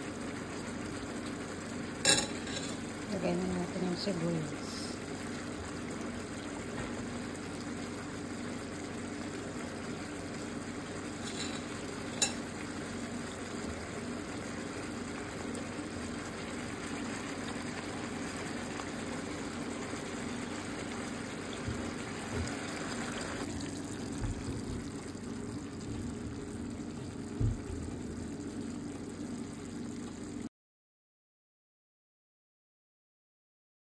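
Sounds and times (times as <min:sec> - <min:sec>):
food sizzling in frying pan: 0:00.0 - 0:30.4.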